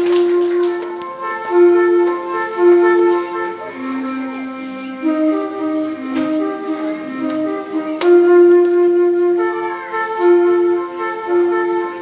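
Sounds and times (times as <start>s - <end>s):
flute-like melody: 0.0s - 12.0s.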